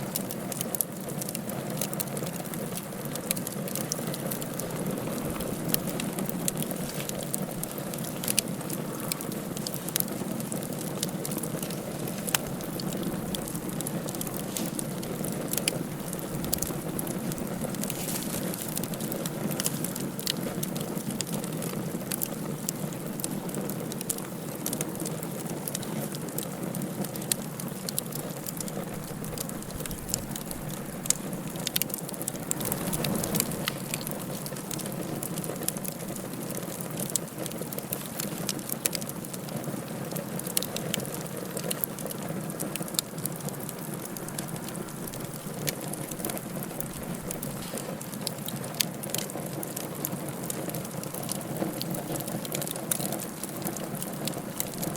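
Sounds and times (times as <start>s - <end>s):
fire crackling in a fireplace: 0.0s - 54.9s.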